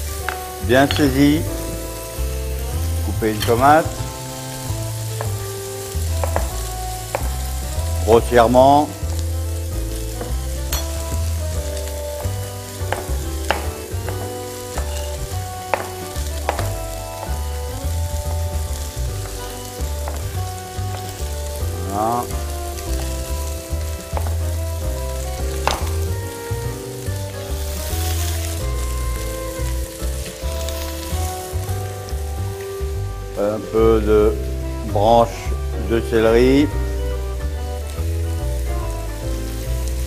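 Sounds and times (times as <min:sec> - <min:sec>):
prawn shells sizzling in pan: 0:00.0 - 0:40.0.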